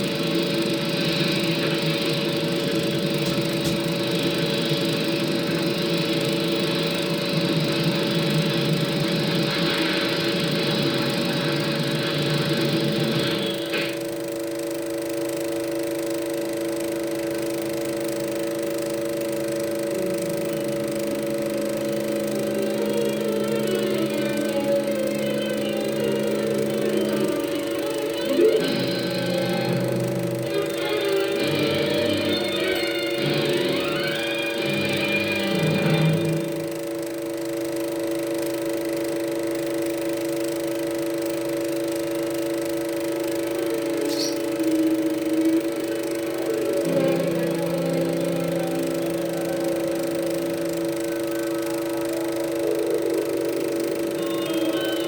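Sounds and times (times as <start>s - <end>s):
droning hum of held pitches: 0.0s - 55.0s
film soundtrack hiss: 0.0s - 55.0s.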